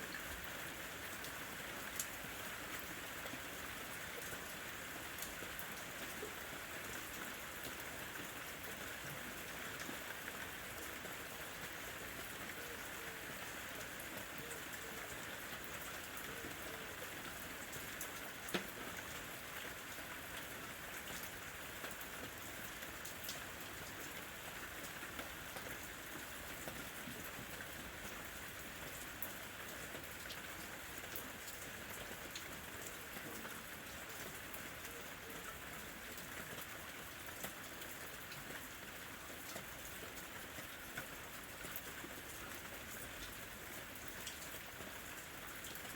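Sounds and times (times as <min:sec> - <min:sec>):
rain patter: 0:00.0 - 0:45.9.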